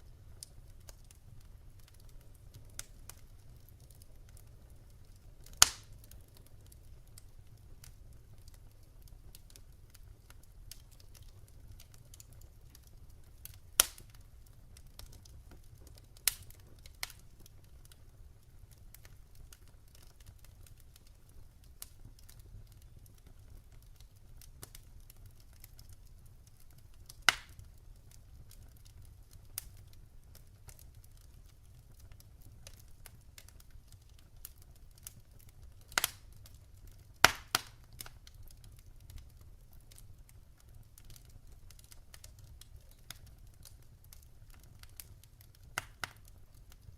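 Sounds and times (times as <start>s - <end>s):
fire crackling and popping: 0.0s - 46.9s
low rumble of flames: 0.0s - 46.9s.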